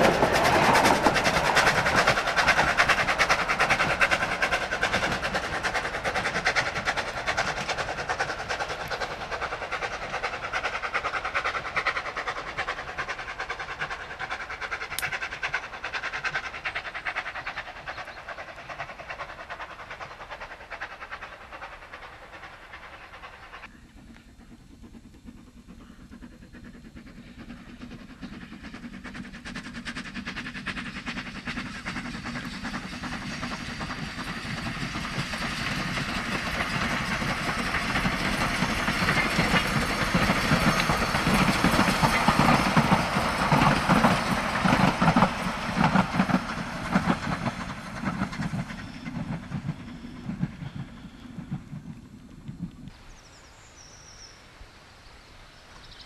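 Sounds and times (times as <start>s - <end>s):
train wheel noise: 0.0s - 53.0s
steam locomotive exhaust: 0.0s - 55.9s.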